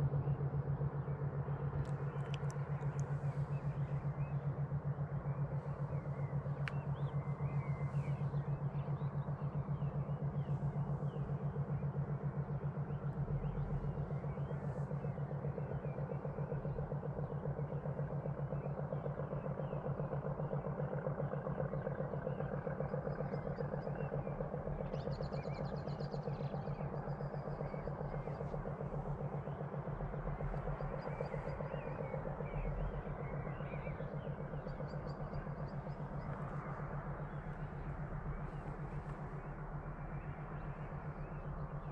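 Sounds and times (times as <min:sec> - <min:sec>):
distant diesel locomotive drone: 0:00.0 - 0:41.9
faint bird chirps: 0:01.0 - 0:41.9.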